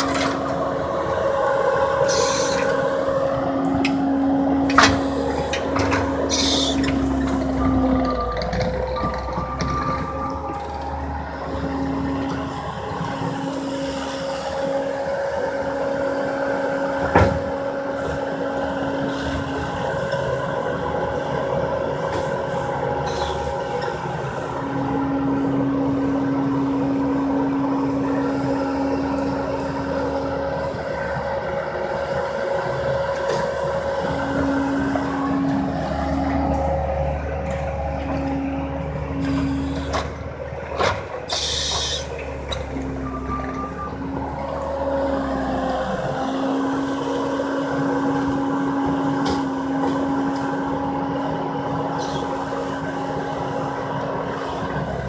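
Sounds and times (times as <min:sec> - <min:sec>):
track loader engine whine: 0:00.0 - 0:55.0.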